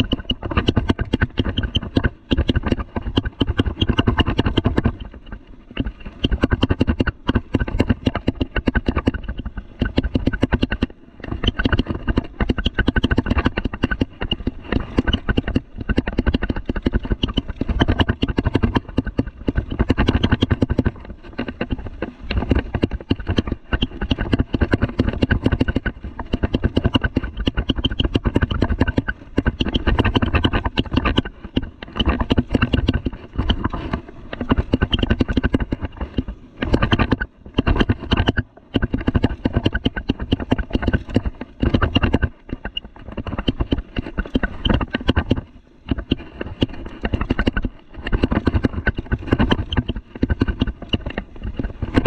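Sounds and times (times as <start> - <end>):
mountain bike clattering on dirt trail: 0.0 - 52.0.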